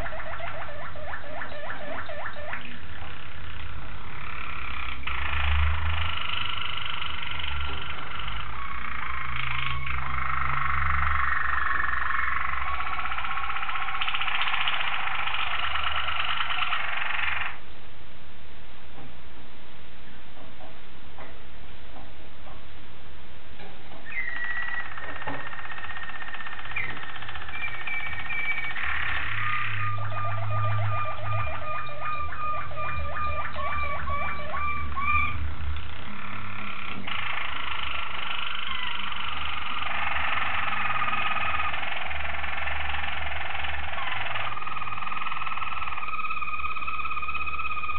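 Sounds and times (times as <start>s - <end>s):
canaries singing rapid trills: 0.0s - 17.6s, 23.9s - 47.9s.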